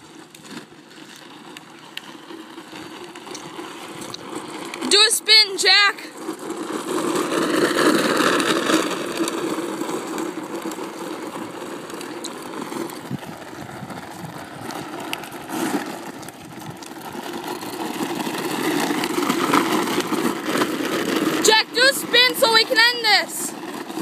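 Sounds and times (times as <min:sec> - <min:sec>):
wheels rolling on rough asphalt: 0:00.0 - 0:24.0.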